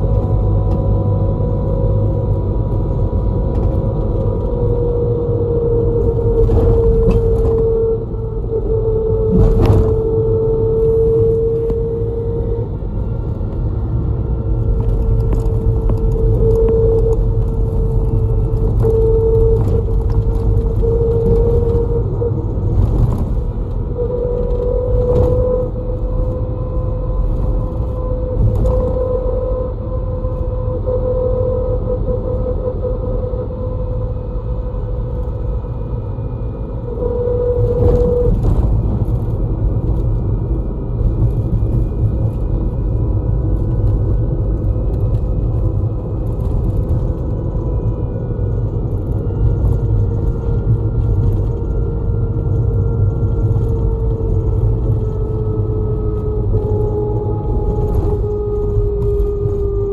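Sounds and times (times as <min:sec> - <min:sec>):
bus engine and road rumble: 0:00.0 - 0:59.9
constant whine: 0:00.0 - 0:59.9.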